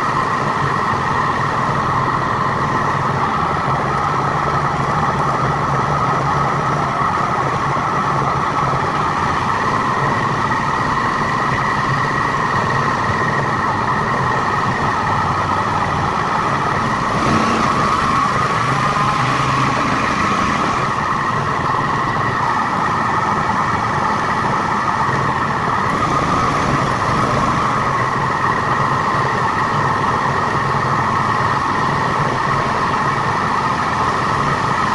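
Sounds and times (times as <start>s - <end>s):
vehicle engine and road noise: 0.0s - 34.9s.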